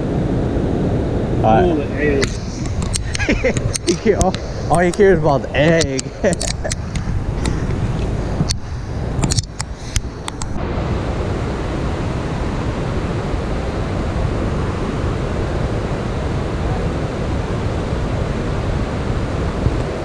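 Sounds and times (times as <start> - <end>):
river water rushing: 0.0 - 20.0
wind buffeting microphone: 0.0 - 20.0.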